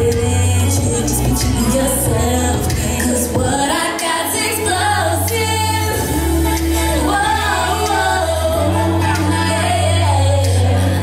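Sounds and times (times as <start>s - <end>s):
deep bass line: 0.0s - 3.8s, 4.5s - 11.0s
person singing: 0.0s - 11.0s.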